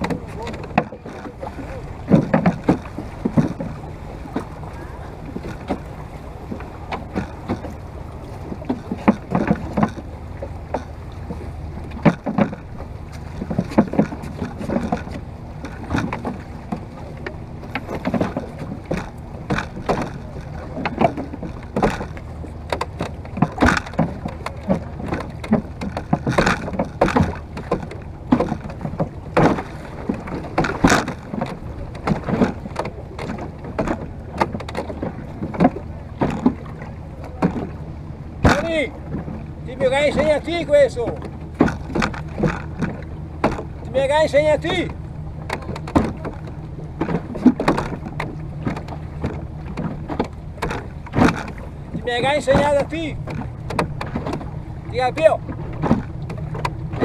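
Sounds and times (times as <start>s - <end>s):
water slapping against boat: 0.0s - 57.0s
wind: 0.0s - 57.0s.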